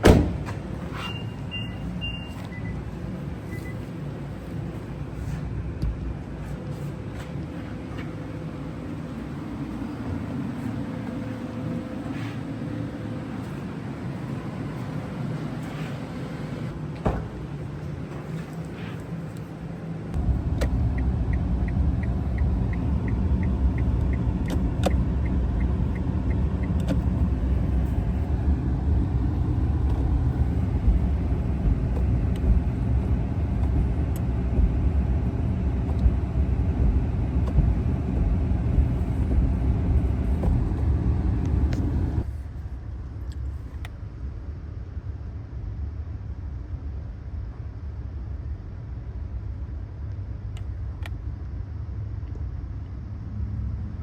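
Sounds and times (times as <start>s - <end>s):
blower fan low rumble: 0.0s - 54.0s.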